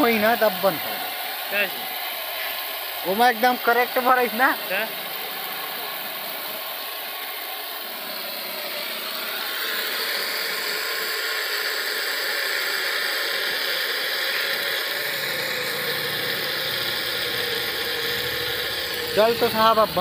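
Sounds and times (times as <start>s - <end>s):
pump engine running: 0.0s - 20.0s
water spilling from tyre valve: 0.0s - 20.0s.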